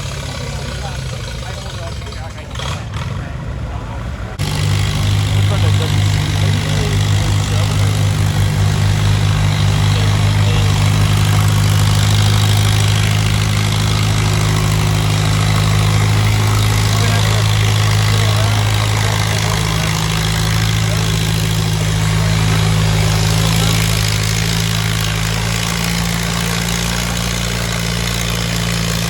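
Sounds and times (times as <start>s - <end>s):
tractor engine droning: 0.0s - 29.0s.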